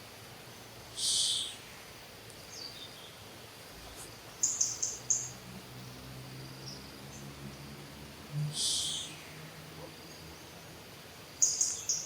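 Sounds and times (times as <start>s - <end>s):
outdoor background hiss: 0.0s - 12.0s
bird chirping: 0.6s - 7.4s, 8.4s - 12.0s.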